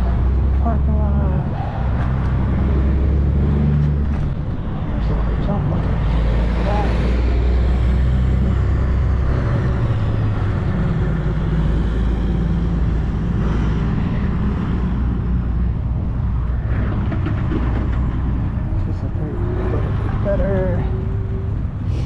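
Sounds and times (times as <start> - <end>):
road and tyre noise: 0.0 - 22.0.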